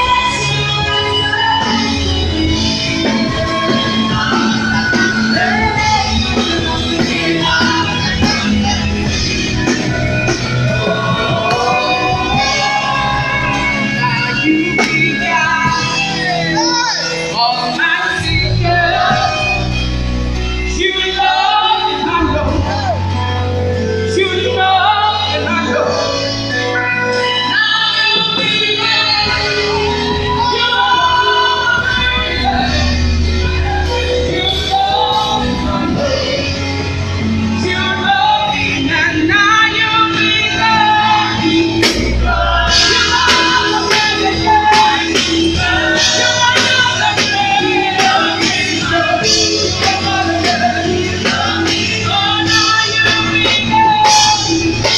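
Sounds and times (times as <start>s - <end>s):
heavy bass line: 0.0s - 26.5s, 28.4s - 54.9s
choir singing gospel music: 0.0s - 54.9s
live band playing: 0.0s - 54.9s.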